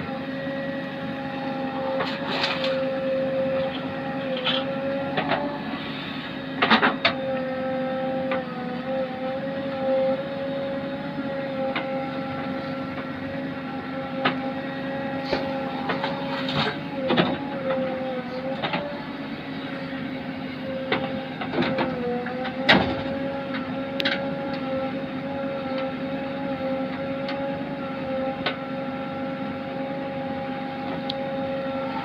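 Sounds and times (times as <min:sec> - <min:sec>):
diesel engine and hydraulic whine: 0:00.0 - 0:32.0.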